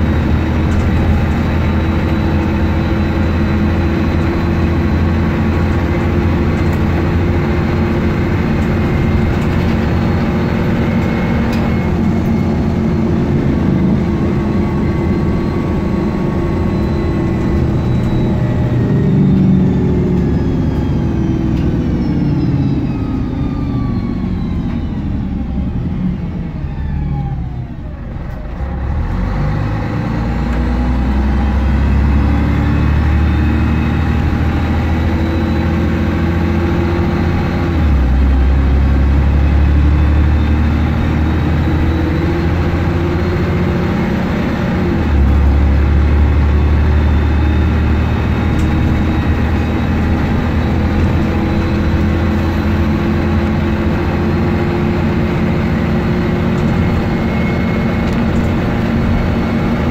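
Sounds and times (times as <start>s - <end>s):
bus diesel engine droning: 0.0s - 59.9s.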